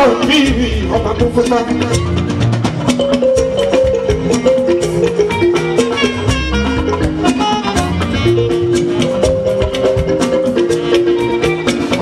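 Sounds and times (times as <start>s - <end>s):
drum and percussion strokes: 0.0s - 12.0s.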